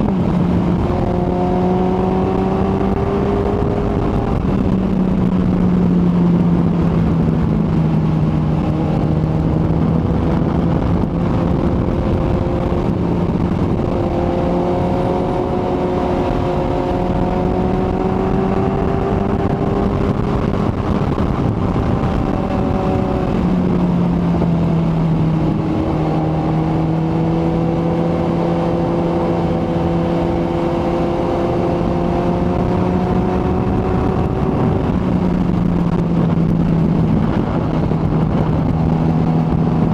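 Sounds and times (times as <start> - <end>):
constant rushing noise: 0.0 - 39.9
motorcycle engine cruising: 0.0 - 39.9.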